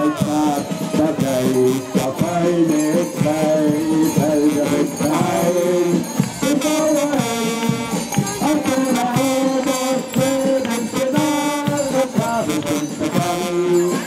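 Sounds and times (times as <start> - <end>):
marching brass band playing: 0.0 - 14.0.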